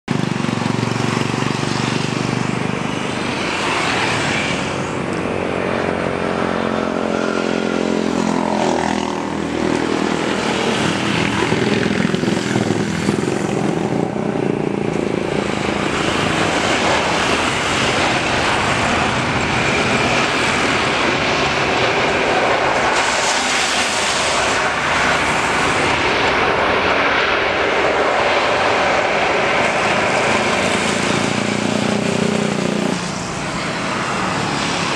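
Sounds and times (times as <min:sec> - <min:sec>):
jet engines landing: 0:00.1 - 0:34.9.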